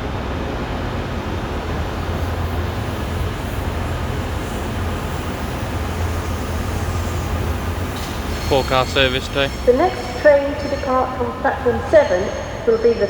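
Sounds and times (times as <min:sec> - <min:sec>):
trains rumbling: 0:00.0 - 0:13.0.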